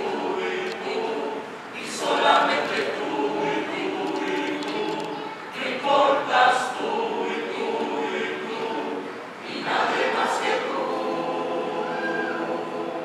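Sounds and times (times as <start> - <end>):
mixed choir singing in harmony: 0.0 - 13.0.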